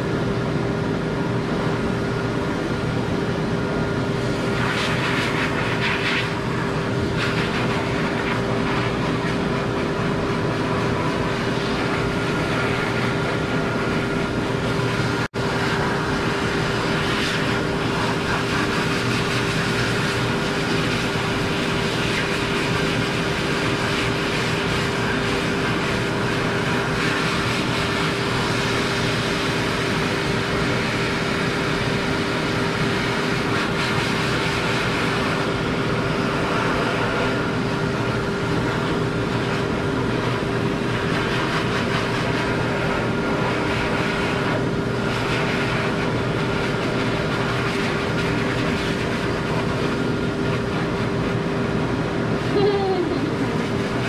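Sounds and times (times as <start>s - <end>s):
blower dryer rushing air: 0.0s - 54.0s.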